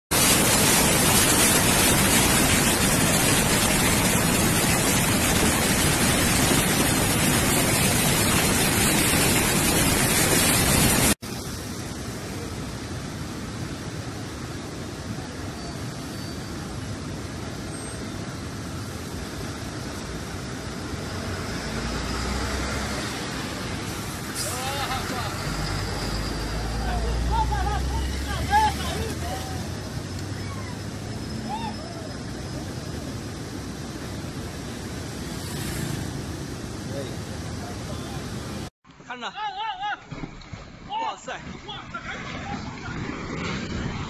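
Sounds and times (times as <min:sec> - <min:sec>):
water surging against concrete wall: 0:00.1 - 0:16.0, 0:18.2 - 0:38.7
flood water rushing roar: 0:00.1 - 0:38.7.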